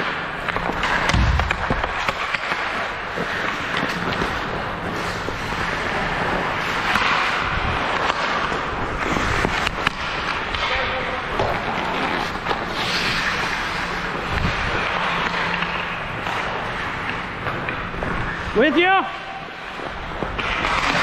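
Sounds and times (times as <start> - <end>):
hockey sticks and puck clacking: 0.0 - 21.0
skates scraping on ice: 0.0 - 21.0.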